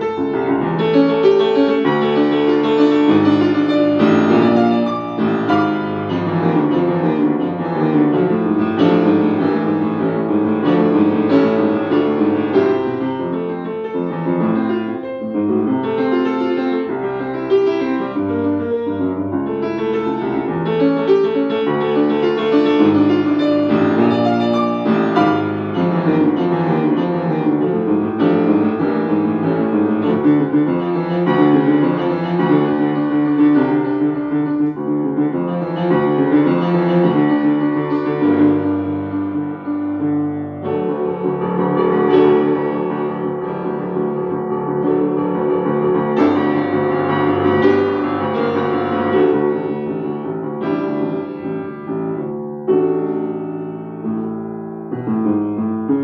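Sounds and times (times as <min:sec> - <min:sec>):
solo piano piece: 0:00.0 - 0:56.0.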